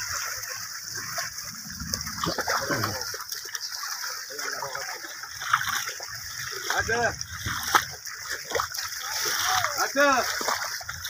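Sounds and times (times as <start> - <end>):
water and mud sloshing: 0.0 - 11.0.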